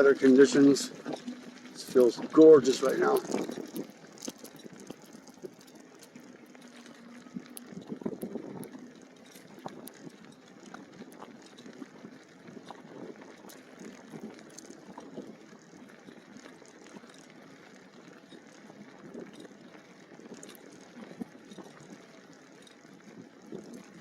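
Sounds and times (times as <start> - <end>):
bicycle tyres on dirt trail: 0.0 - 24.0.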